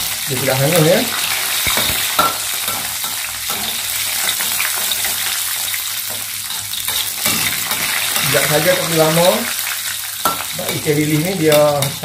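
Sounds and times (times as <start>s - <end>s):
fish sizzling in hot oil: 0.0s - 12.0s
metal spatula scraping wok: 0.7s - 12.0s.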